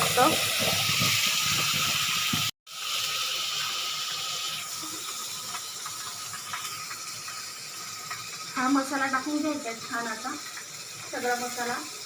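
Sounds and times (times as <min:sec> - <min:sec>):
spice paste sizzling in oil: 0:00.0 - 0:12.0.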